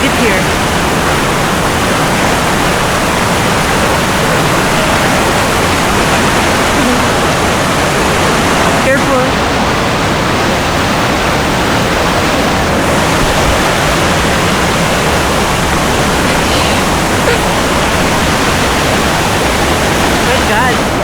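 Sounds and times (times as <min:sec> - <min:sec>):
waterfall rushing and splashing: 0:00.0 - 0:21.0.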